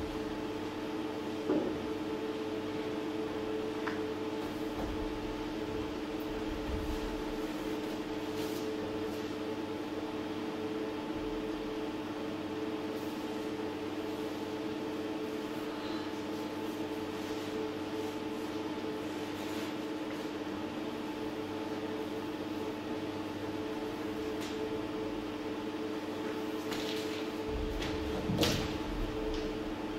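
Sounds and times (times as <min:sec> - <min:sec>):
steady low tone hum: 0:00.0 - 0:29.9.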